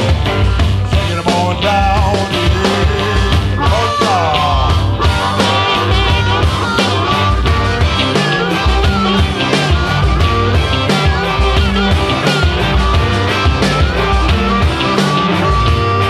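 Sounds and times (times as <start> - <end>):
drums steady beat: 0.0 - 16.0
electric guitar: 0.0 - 16.0.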